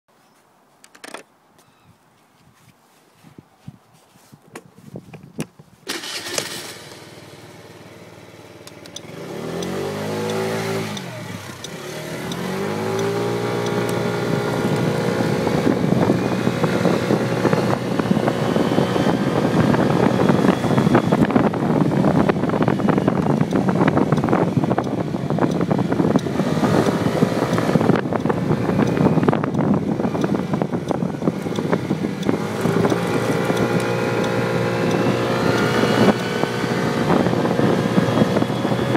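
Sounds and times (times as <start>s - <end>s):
wind rushing over microphone: 2.4s - 6.3s, 9.1s - 38.9s
scooter engine starting and revving: 5.8s - 38.9s.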